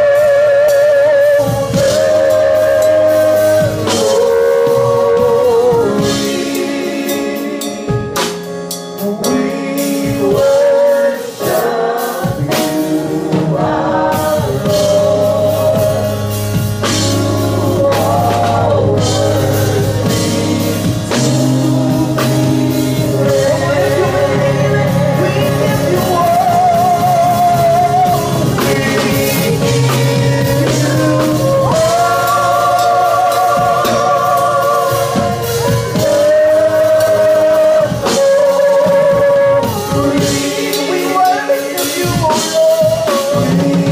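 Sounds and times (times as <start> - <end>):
voices singing held notes: 0.0 - 8.4, 9.0 - 43.9
band with bass and drums: 0.0 - 43.9.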